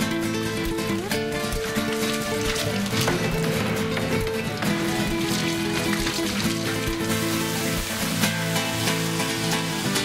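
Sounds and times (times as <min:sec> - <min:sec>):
flamenco acoustic guitar: 0:00.0 - 0:10.0.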